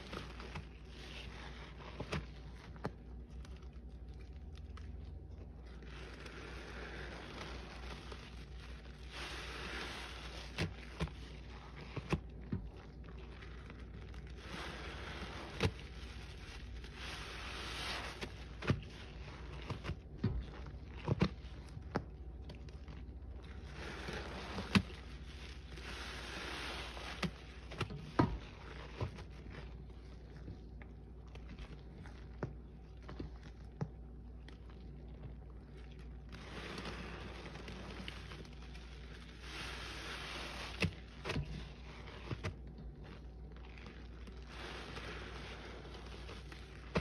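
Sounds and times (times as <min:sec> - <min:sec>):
wet sponge squelching: 0:00.0 - 0:47.0.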